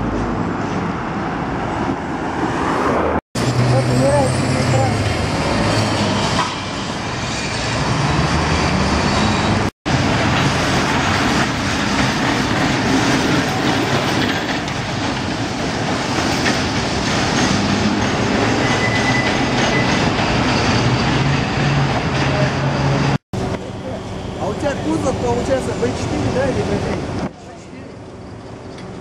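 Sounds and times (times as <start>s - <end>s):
road traffic: 0.0s - 29.0s
tram wheels rumbling on rails: 0.0s - 29.0s.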